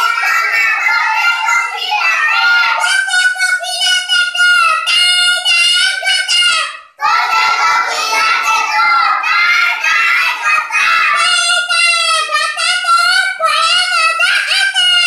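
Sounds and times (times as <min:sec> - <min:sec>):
boy chanting a poem: 0:00.0 - 0:15.0.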